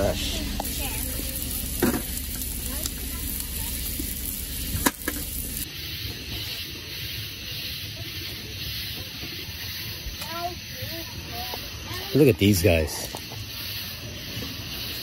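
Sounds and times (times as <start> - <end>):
shrimp sizzling in a skillet: 0.0 - 15.0.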